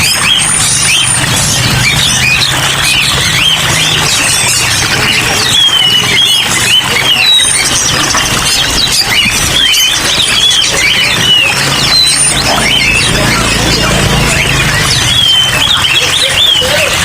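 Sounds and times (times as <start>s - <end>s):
caged songbirds chirping: 0.0s - 17.0s.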